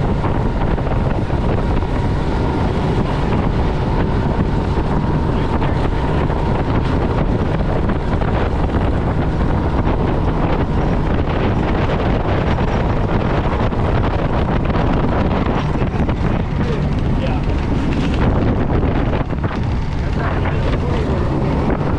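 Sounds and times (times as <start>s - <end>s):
boat running noise: 0.0s - 21.9s
wind buffeting microphone: 0.0s - 21.9s.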